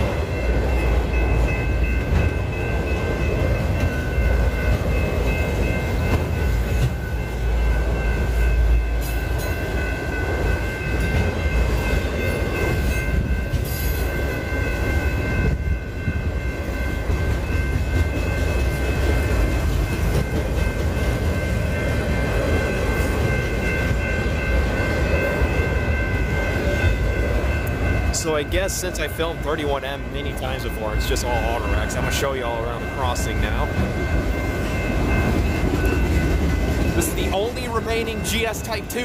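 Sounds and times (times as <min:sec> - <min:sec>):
freight train rumbling past: 0:00.0 - 0:39.0
steady high ringing: 0:00.0 - 0:39.0
train wheel clatter: 0:00.0 - 0:39.0.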